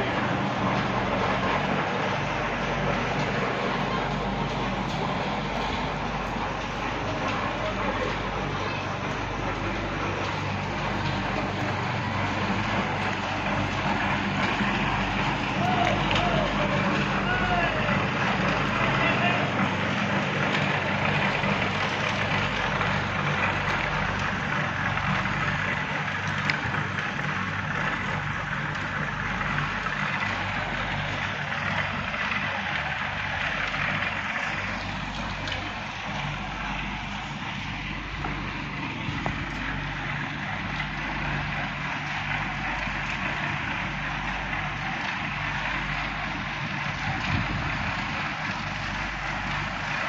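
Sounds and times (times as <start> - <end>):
low motor hum: 0.0 - 50.0.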